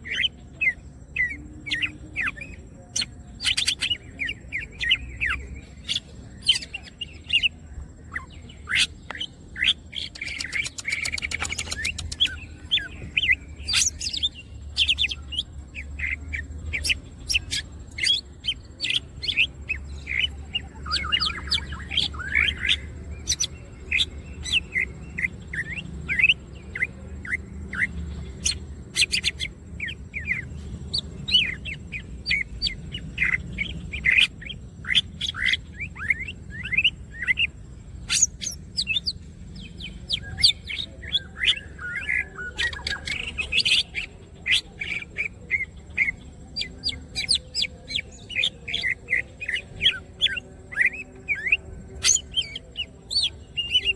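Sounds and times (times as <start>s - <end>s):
bird singing chirps and whistles: 0.0s - 53.9s.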